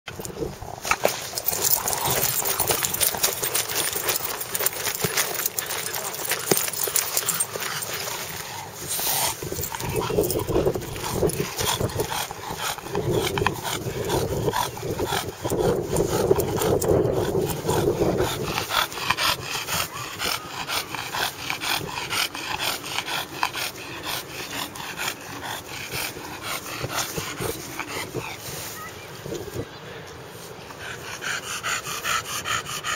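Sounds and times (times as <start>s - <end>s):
dog grunting and breathing: 0.1s - 28.7s, 30.7s - 32.9s.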